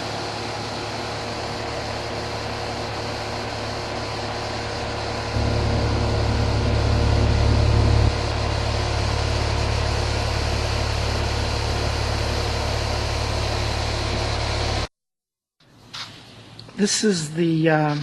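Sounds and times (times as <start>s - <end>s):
air conditioner unit humming: 0.0s - 14.9s.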